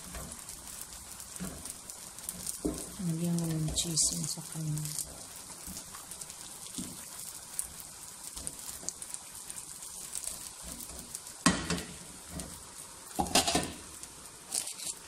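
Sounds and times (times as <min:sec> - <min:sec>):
patties sizzling in oil: 0:00.0 - 0:15.0.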